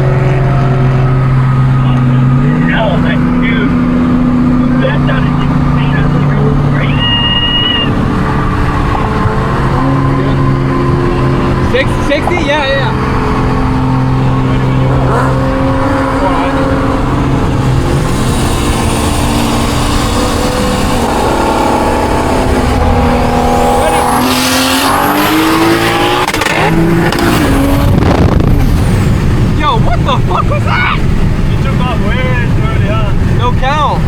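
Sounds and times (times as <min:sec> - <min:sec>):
car engine revving with whine: 0:00.0 - 0:34.0.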